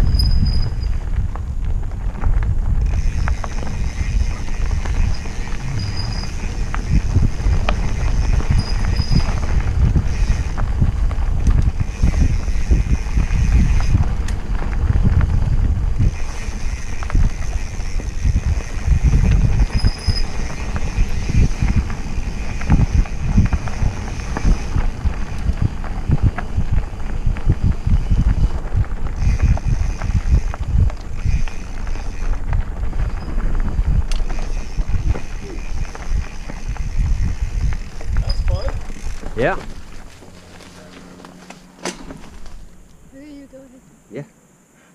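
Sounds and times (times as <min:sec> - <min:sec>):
bike rattling and knocking: 0:00.0 - 0:42.8
bike tyres rumbling on dirt: 0:00.0 - 0:43.5.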